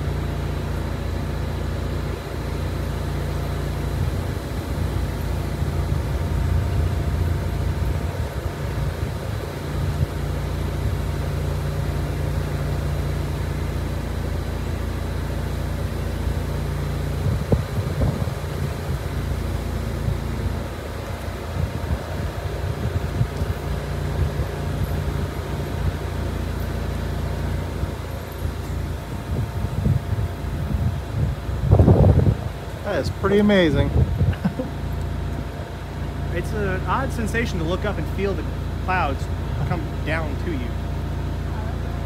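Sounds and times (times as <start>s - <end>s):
small engine humming: 0.0s - 42.0s.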